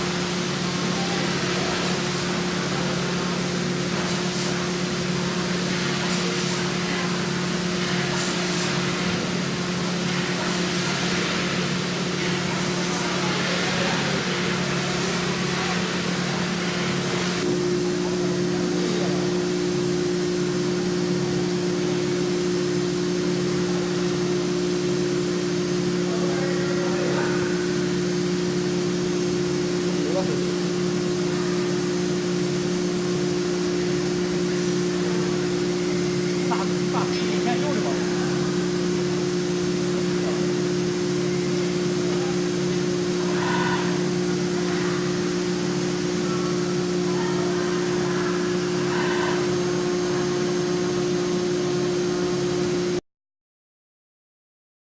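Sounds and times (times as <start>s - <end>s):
milling machine humming: 0.0s - 53.0s.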